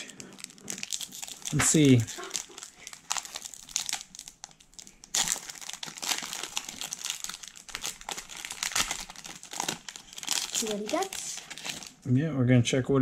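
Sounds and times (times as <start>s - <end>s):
foil wrapper crackling: 0.0s - 12.0s.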